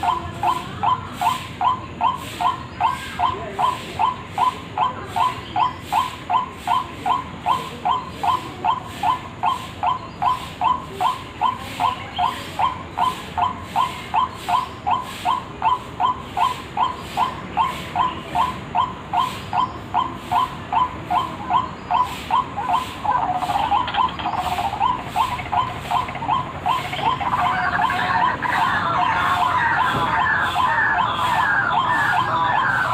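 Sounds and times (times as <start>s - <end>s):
waterhen call: 0.0s - 32.9s.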